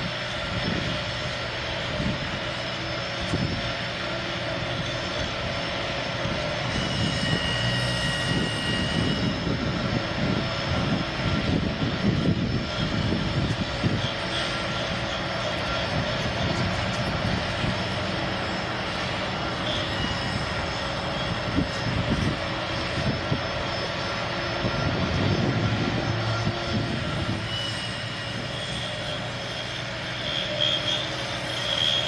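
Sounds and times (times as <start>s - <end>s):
track maintenance machine droning: 0.0s - 32.0s.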